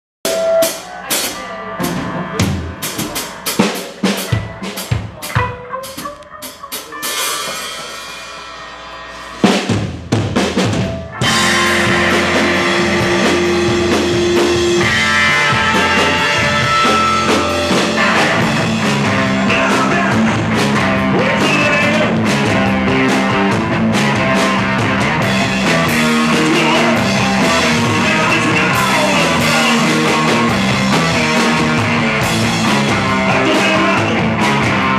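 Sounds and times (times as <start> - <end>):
drum and cymbal hits: 0.2 - 34.9
rock band playing loudly: 0.2 - 34.9.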